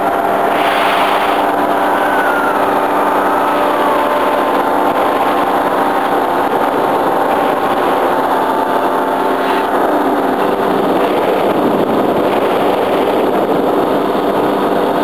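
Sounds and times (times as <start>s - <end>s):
paramotor engine and propeller: 0.0s - 15.0s.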